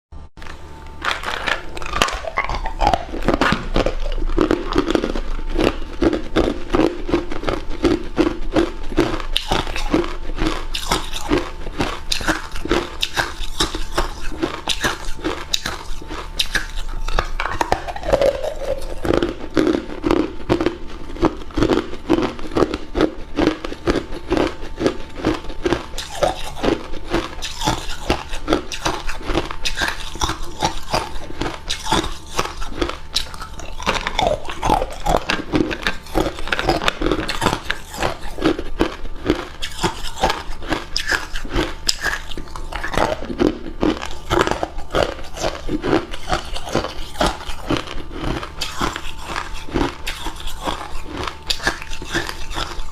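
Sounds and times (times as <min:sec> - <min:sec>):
person crunching ice cubes: 0:00.4 - 0:52.9.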